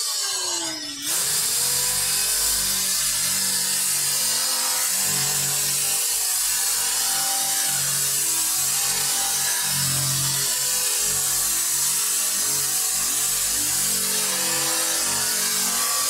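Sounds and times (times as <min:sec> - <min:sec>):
drill wire brush scrubbing metal: 0:01.0 - 0:16.0.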